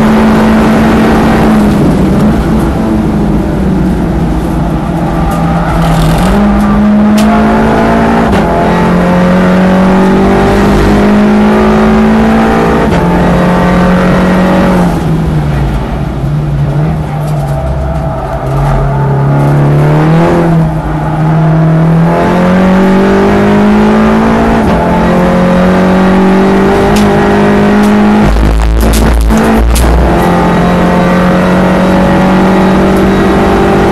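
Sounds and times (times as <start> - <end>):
car engine at full throttle: 0.0 - 33.9.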